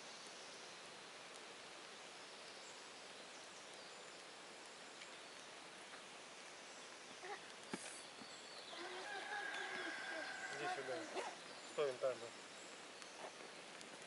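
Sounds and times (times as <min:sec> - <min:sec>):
faint outdoor background hiss: 0:00.0 - 0:14.0.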